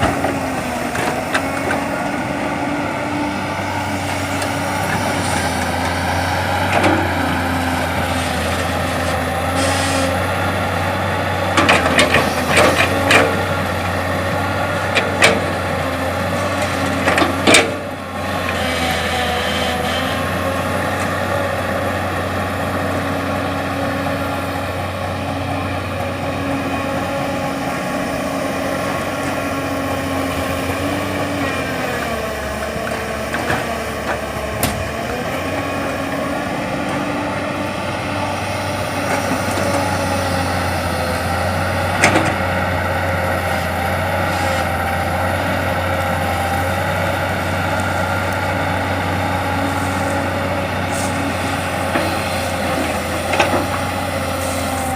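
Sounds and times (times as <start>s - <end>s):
heavy diesel engines running: 0.0s - 54.9s.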